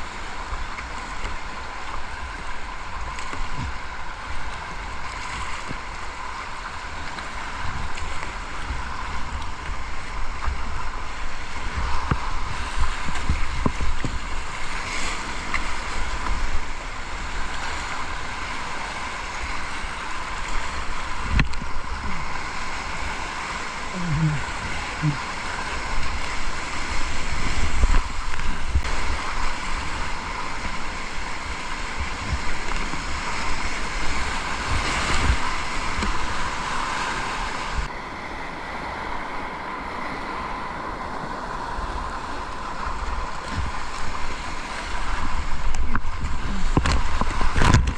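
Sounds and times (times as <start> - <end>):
river water rushing and splashing: 0.0 - 47.9
wind rumble on microphone: 0.0 - 47.9.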